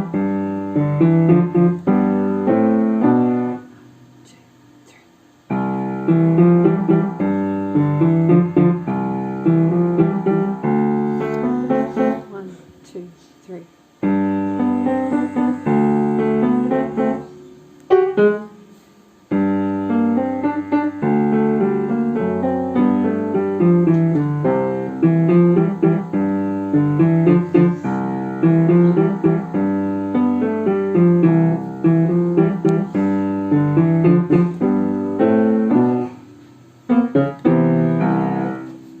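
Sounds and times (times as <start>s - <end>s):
piano waltz: 0.0s - 3.8s, 5.5s - 12.4s, 14.0s - 39.0s.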